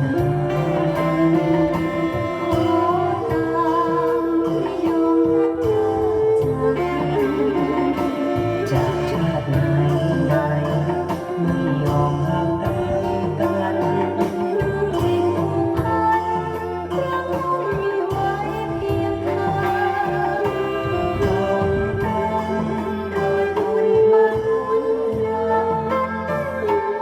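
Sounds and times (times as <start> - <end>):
backing track with bass and beat: 0.0 - 27.0
bowed fiddle melody: 0.0 - 27.0.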